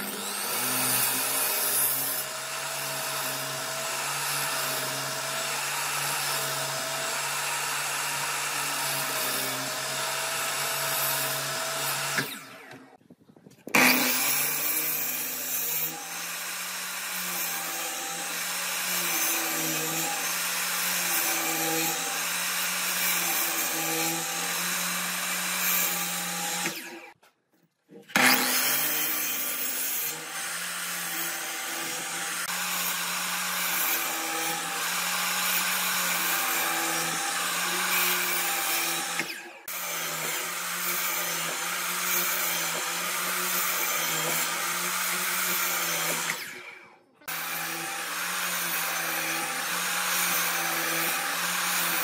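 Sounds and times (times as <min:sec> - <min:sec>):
miter saw cutting wood: 0:00.0 - 0:13.0, 0:13.7 - 0:27.2, 0:28.0 - 0:52.0.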